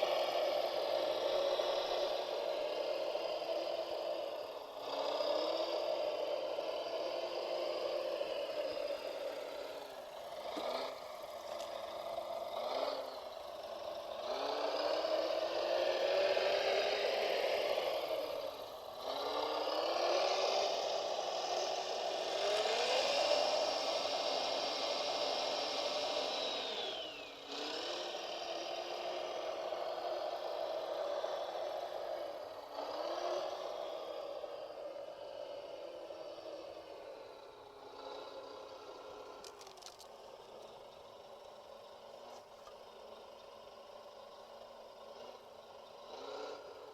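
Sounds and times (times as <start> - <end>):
model vehicle motor whining: 0.0 - 43.2.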